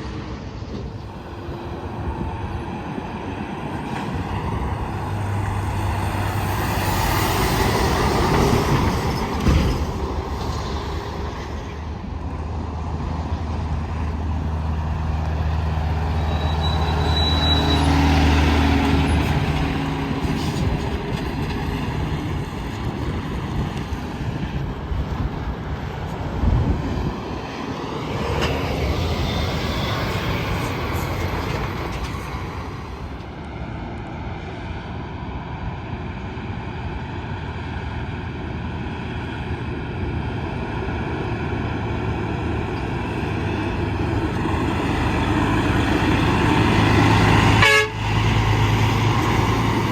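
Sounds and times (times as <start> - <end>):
diesel truck engines passing: 0.0 - 49.9.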